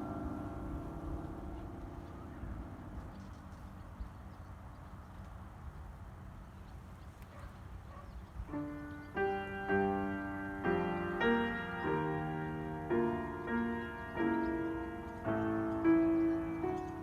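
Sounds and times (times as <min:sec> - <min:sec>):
slow piano melody: 0:00.0 - 0:05.4, 0:08.4 - 0:17.0.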